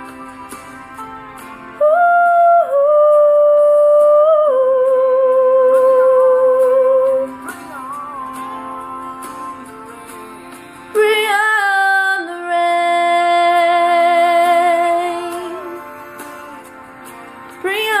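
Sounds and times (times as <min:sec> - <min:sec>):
guitar accompaniment: 0:00.0 - 0:18.0.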